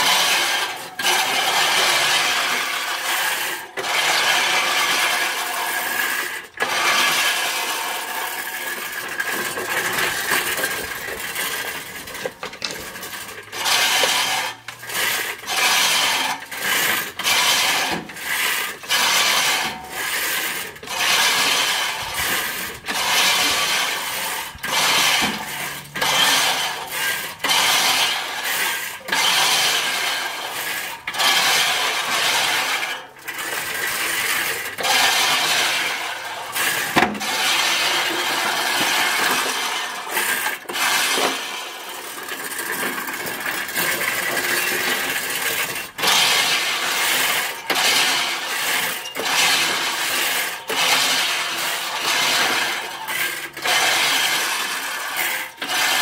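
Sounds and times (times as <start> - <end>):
reel mower blades whirring: 0.0 - 56.0.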